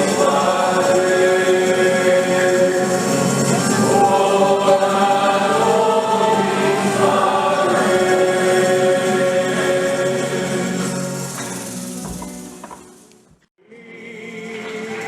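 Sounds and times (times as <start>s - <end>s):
choir singing a hymn: 0.0s - 12.7s, 13.6s - 15.0s.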